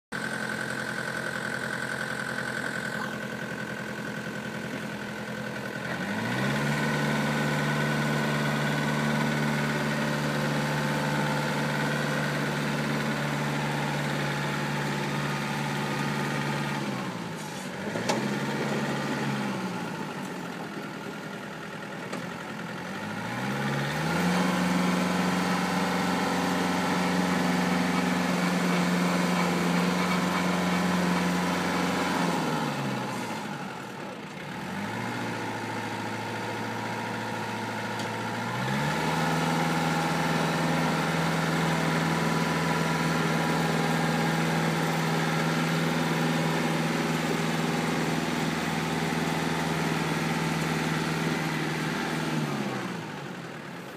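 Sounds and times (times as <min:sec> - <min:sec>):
tractor diesel engine revving: 0:00.1 - 0:53.9.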